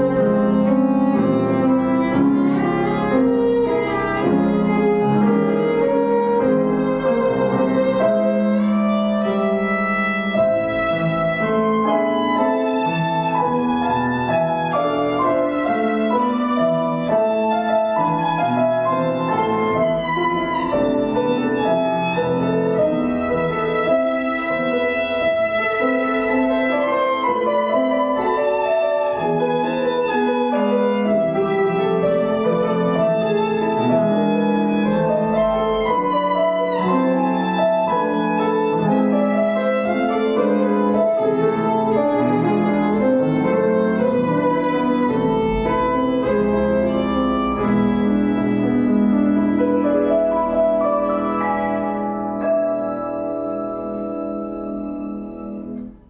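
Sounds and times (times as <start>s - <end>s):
violin playing slow melody: 0.0s - 52.0s, 52.6s - 56.0s
piano accompaniment: 0.0s - 56.0s.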